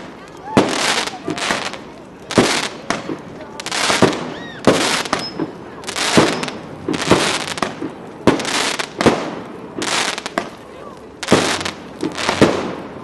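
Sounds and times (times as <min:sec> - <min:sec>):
firework bangs with hiss: 0:00.0 - 0:13.0.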